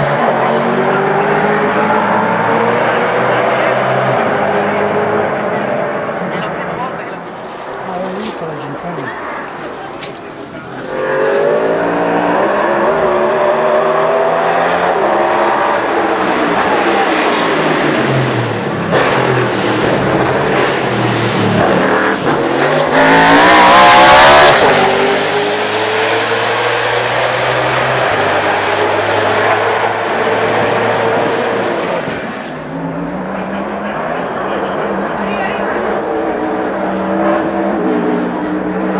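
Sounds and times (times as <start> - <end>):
race car engine accelerating: 0.0 - 7.2, 10.8 - 38.9.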